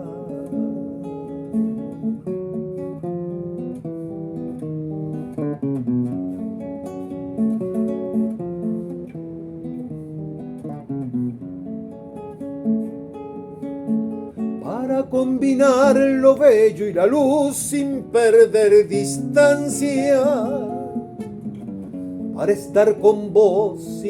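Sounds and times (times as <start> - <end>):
acoustic guitar plucked notes: 0.0 - 24.0.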